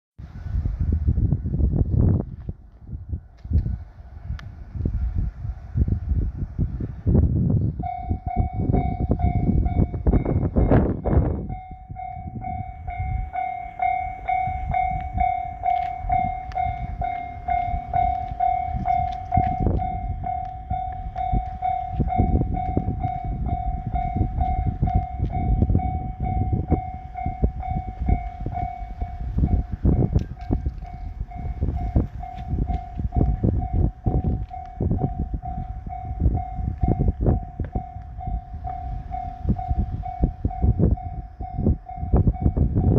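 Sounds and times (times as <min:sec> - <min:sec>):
heavy low rumbling: 0:00.2 - 0:42.9
level crossing alarm bell: 0:07.8 - 0:42.9.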